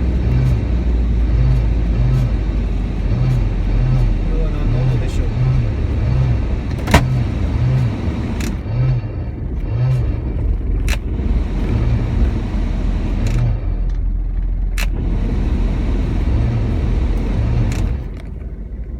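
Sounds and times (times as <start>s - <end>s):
engine rumble: 0.0s - 18.9s
pulsing whine in van: 0.0s - 18.9s.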